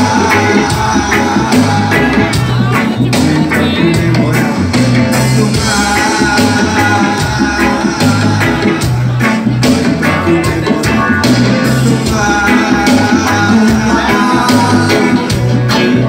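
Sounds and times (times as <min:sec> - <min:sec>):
live reggae band playing: 0:00.0 - 0:16.0.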